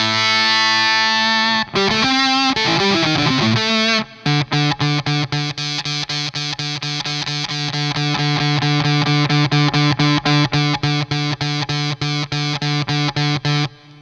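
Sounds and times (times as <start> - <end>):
overdriven electric guitar picking: 0.0 - 14.0.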